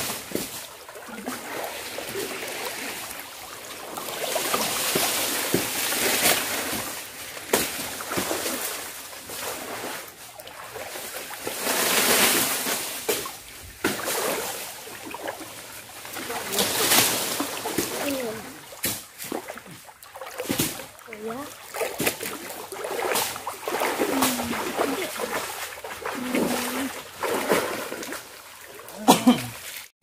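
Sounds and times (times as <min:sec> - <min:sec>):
water sloshing and splashing: 0:00.0 - 0:29.9.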